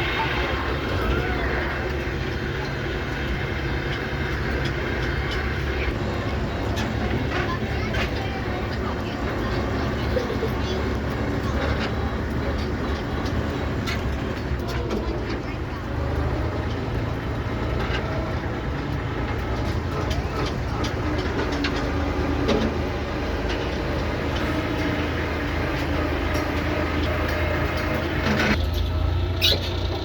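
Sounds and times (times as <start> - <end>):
diesel tractor engine running: 0.0 - 30.0
wagons rattling and clicking: 0.0 - 30.0.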